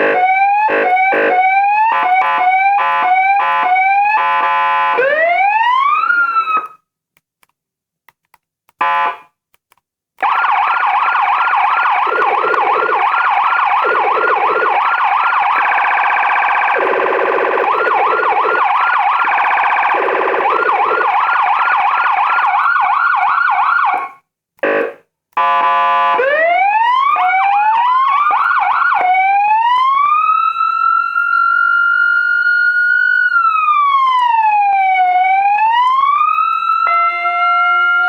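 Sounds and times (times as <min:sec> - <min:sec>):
electronic siren yelp and wail: 0:00.0 - 0:06.8, 0:10.2 - 0:38.0.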